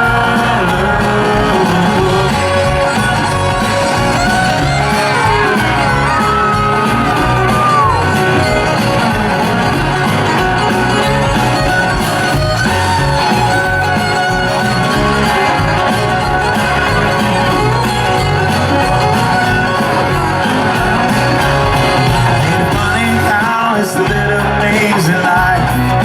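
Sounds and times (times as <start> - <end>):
fiddle melody: 0.0 - 24.2
country band playing: 0.0 - 26.0
crowd shouting: 0.0 - 26.0.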